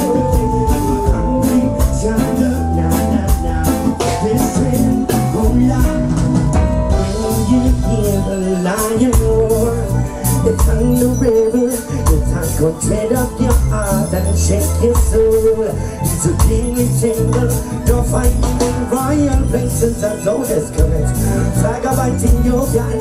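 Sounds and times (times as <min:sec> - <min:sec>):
bass guitar: 0:00.0 - 0:23.0
drums: 0:00.0 - 0:23.0
electric guitars: 0:00.0 - 0:23.0
person singing: 0:00.0 - 0:23.0.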